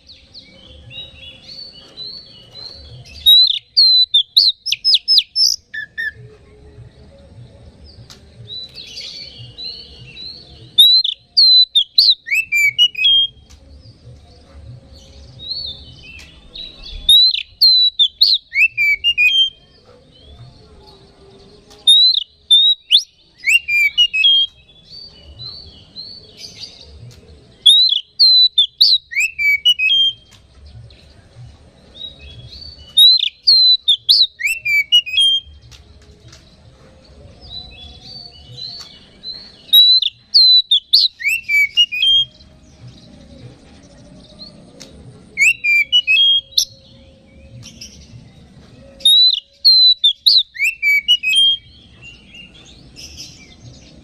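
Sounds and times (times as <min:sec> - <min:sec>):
bird singing whistled notes: 0:00.0 - 0:31.1, 0:31.8 - 0:36.7, 0:37.3 - 0:54.0.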